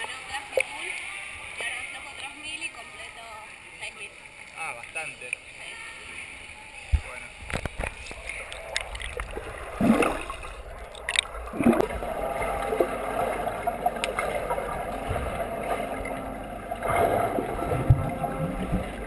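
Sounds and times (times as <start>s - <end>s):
underwater bubbling and churning: 0.0s - 19.0s.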